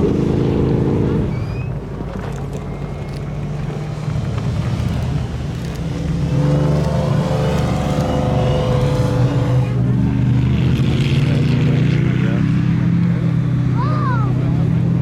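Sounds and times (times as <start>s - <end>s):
car engine accelerating: 2.4s - 15.0s.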